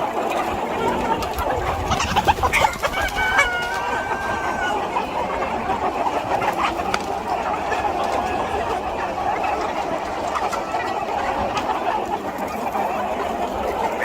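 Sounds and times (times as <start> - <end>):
chickens clucking: 0.0 - 14.0
long held chicken calls: 0.0 - 14.0.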